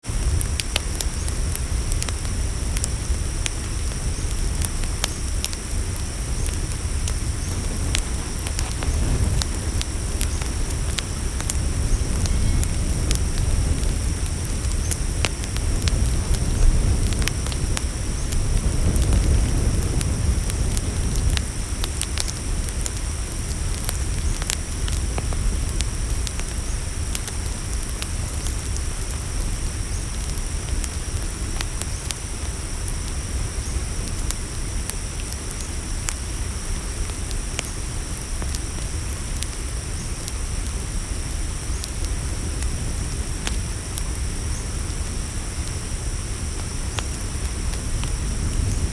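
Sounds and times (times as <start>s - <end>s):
campfire crackling: 0.0s - 48.9s
crickets chirring: 0.1s - 48.9s.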